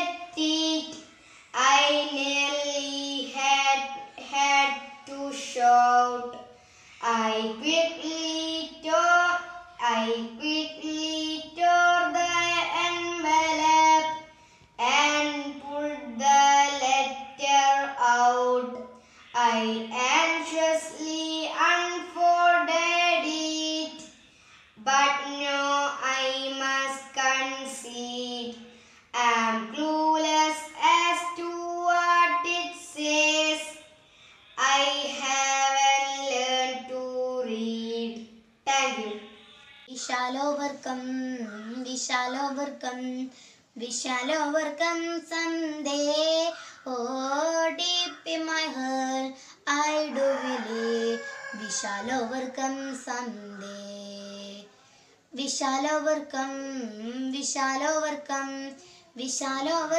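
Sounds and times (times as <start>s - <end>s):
girl singing: 0.0s - 59.9s.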